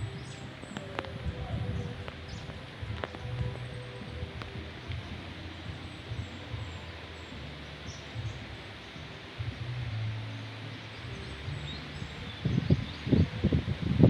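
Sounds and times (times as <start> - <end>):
wind gusts hitting microphone: 0.0 - 10.2, 10.9 - 14.0
leaves rustling in wind: 0.0 - 14.0.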